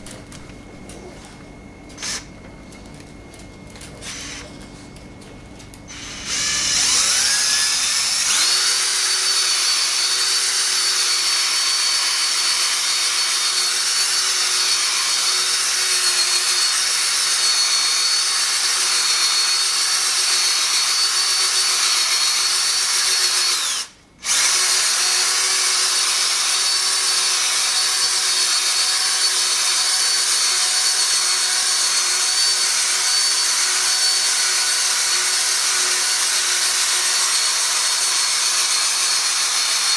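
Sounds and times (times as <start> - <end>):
drill motor whine: 2.0 - 2.4, 4.0 - 4.6, 5.9 - 39.9.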